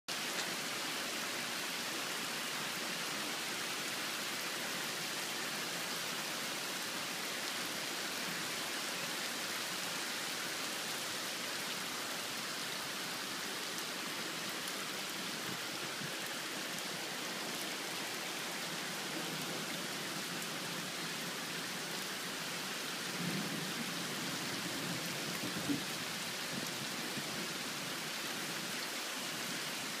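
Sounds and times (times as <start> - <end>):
heavy rain on standing water: 0.1 - 30.0.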